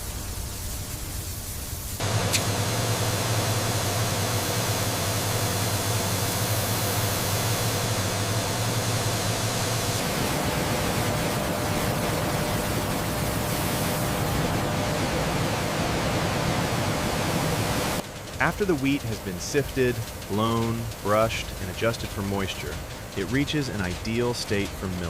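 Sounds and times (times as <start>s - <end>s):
grain-cleaning machinery running: 2.0s - 25.0s
low hum: 2.0s - 25.0s.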